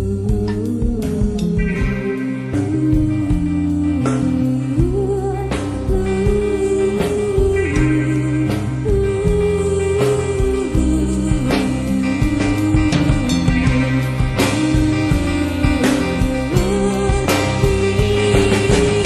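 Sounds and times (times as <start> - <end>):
bass line: 0.0 - 19.0
music with sliding melody notes: 0.0 - 19.0.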